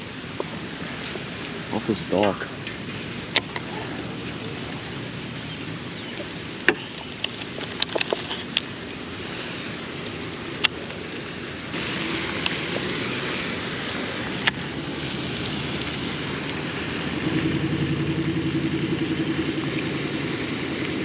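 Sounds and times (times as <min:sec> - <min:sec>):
engine running pulsing: 0:00.0 - 0:21.0
steady rushing noise: 0:00.0 - 0:21.0.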